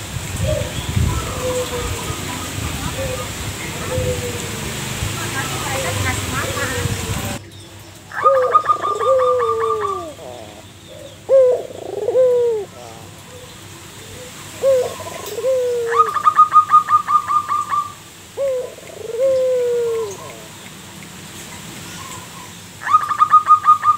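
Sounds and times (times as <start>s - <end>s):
dove cooing: 0.4s - 7.2s, 8.1s - 20.6s, 21.9s - 23.9s.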